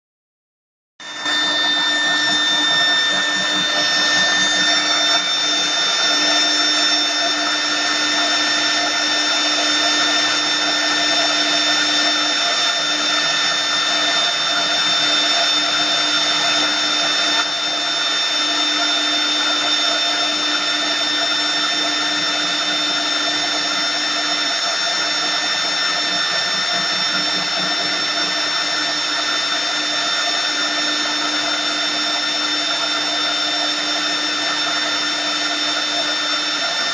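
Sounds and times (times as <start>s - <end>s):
router spindle whining: 1.0s - 36.9s
rushing noise of wood cutting: 1.0s - 36.9s.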